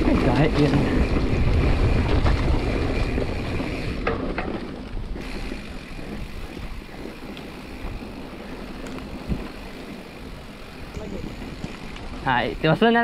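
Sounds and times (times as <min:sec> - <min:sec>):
wind rushing over microphone: 0:00.0 - 0:12.7
bike tyres and frame rattling: 0:00.0 - 0:13.0.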